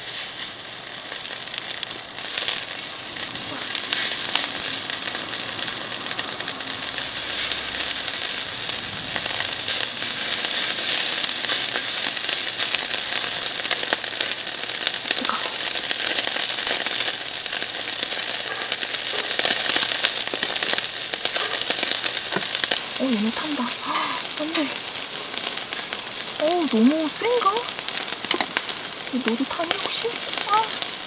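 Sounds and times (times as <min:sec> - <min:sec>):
beef sizzling on a grill: 0:00.0 - 0:31.0.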